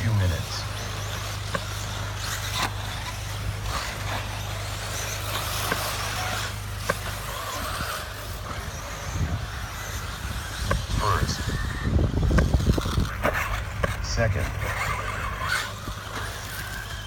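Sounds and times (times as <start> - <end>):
rc car motor and tyre noise: 0.0 - 17.0
steady low hum: 0.0 - 17.0.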